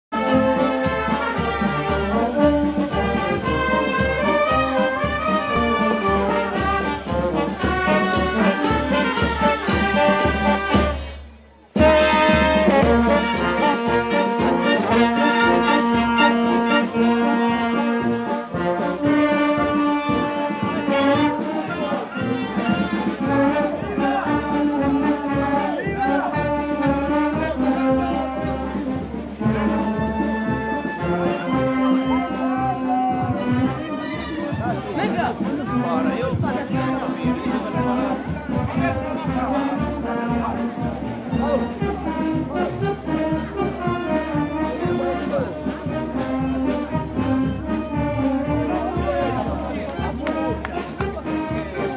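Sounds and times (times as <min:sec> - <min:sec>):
marching brass band playing: 0:00.1 - 0:51.9
steady drum beat: 0:00.1 - 0:51.9.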